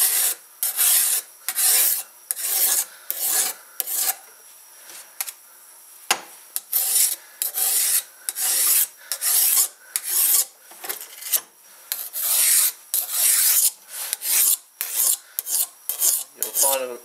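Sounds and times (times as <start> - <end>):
file rasping on steel edge: 0.0 - 4.2, 6.6 - 16.9.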